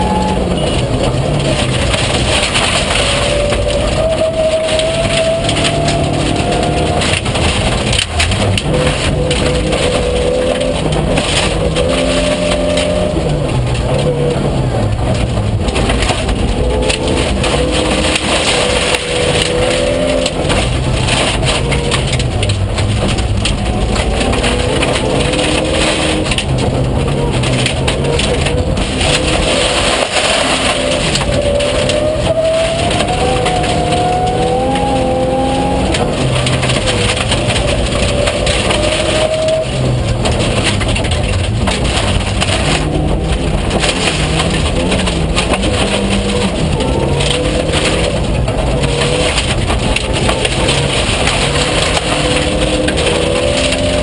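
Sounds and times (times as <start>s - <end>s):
rally car engine revving: 0.0s - 54.0s
tyres on gravel rushing: 0.0s - 54.0s.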